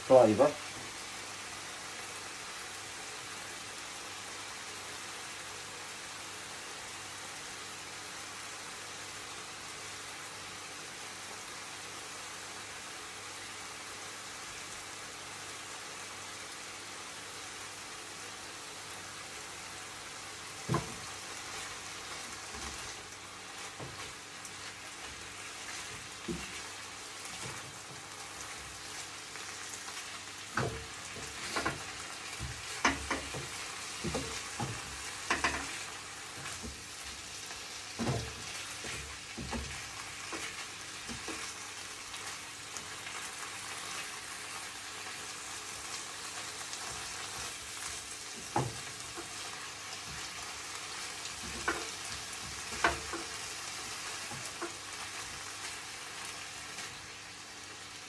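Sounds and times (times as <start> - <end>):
chicken sizzling in frying pan: 0.0 - 58.0.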